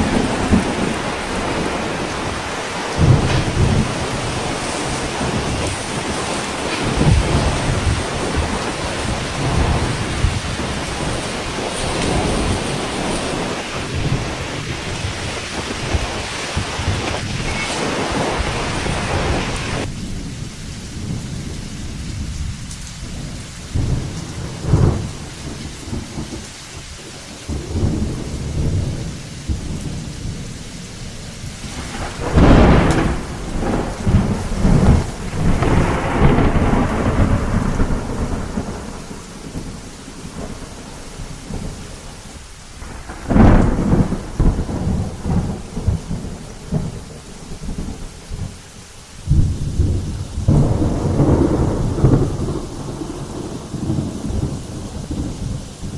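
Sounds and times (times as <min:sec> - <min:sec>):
loud thunder claps: 0:00.0 - 0:30.8, 0:31.4 - 0:48.6, 0:49.2 - 0:55.9
rolling thunder: 0:00.0 - 0:55.9
steady rain: 0:00.0 - 0:55.9.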